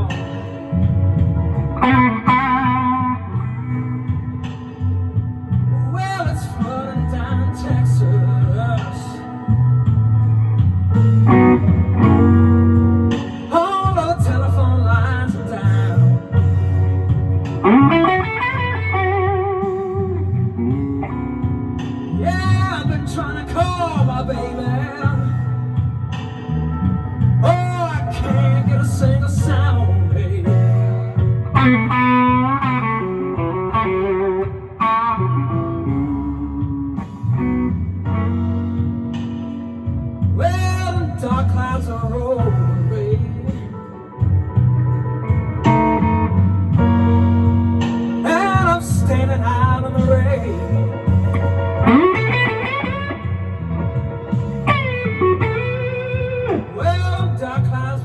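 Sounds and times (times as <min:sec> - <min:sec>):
blues electric guitar: 0:00.0 - 0:58.0
steady bass line: 0:00.0 - 0:58.0.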